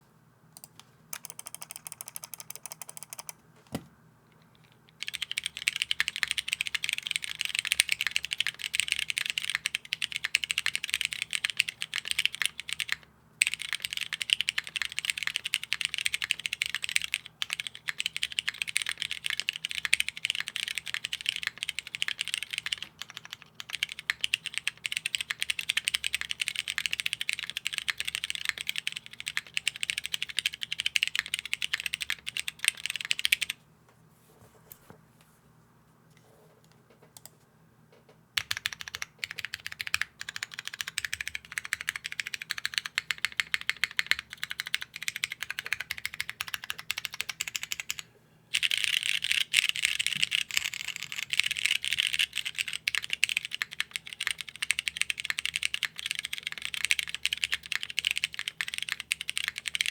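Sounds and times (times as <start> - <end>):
mechanical keyboard typing: 0.6 - 3.4, 4.5 - 33.6, 38.4 - 59.9.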